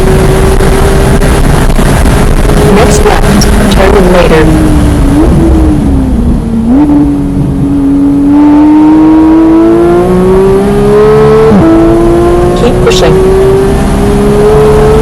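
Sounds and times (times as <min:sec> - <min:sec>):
car engine revving at speed: 0:00.0 - 0:15.0.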